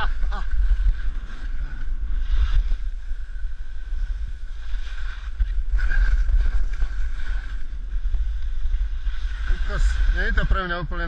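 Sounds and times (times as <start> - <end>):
wind rumbling on microphone: 0.0 - 11.0
skis hissing over snow: 0.1 - 11.0.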